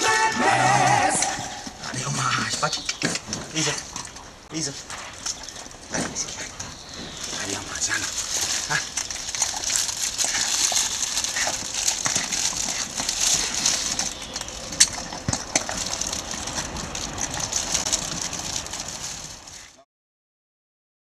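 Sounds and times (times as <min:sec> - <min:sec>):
steady outdoor hiss: 0:00.0 - 0:19.8.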